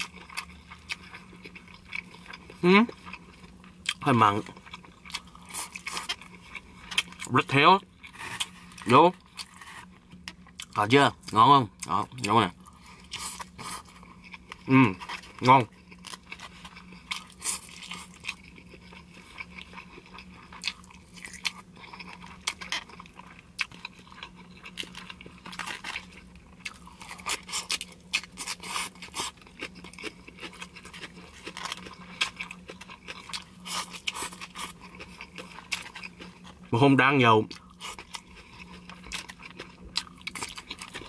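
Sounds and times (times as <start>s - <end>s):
crisp chewing crunches: 0.0s - 41.0s.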